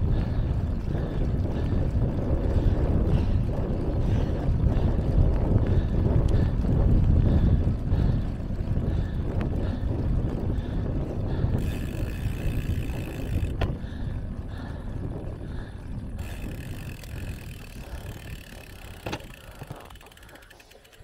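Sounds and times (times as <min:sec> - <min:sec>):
wind buffeting microphone: 0:00.0 - 0:20.6.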